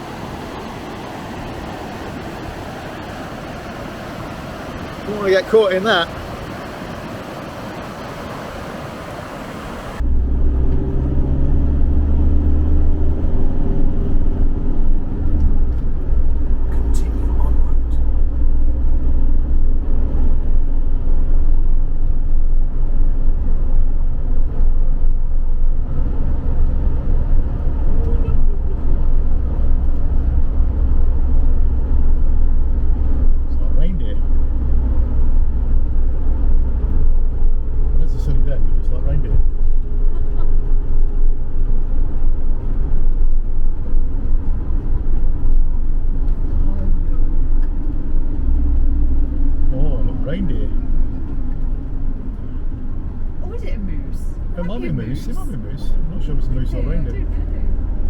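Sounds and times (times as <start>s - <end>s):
road noise: 0.0s - 58.0s
van engine rumble: 0.0s - 58.0s.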